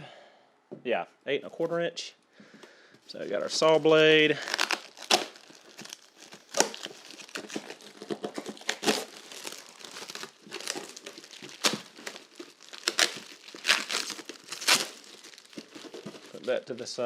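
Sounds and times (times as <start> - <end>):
packaging crinkling and tearing: 3.2 - 16.9.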